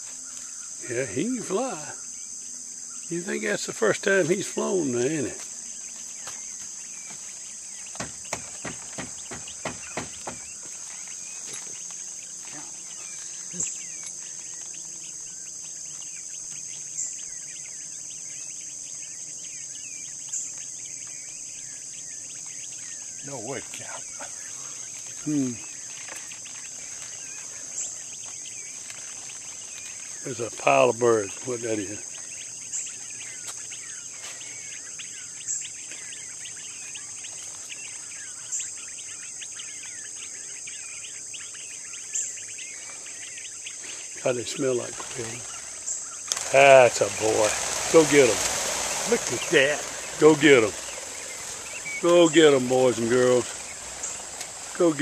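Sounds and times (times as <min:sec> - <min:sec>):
high insect chorus: 0:00.0 - 0:55.0
young quail peeping: 0:00.0 - 0:55.0.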